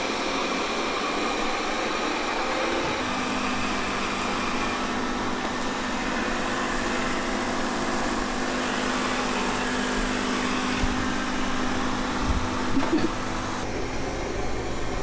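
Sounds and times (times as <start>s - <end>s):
robot vacuum humming: 0.0s - 13.7s.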